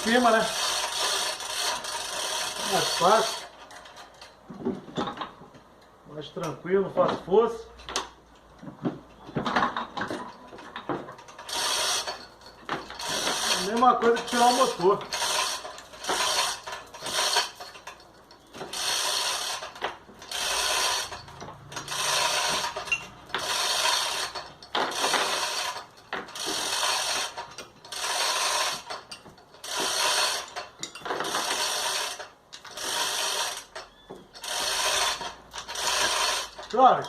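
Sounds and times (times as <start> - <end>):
hand hoist ratcheting clicks: 0.0 - 37.0.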